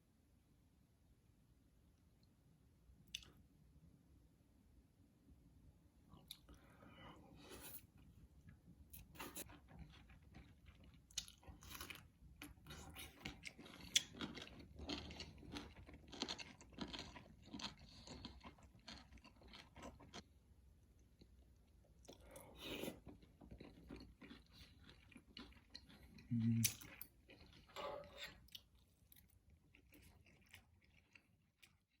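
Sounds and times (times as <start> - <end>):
person chewing food: 3.1 - 3.4, 6.2 - 32.0.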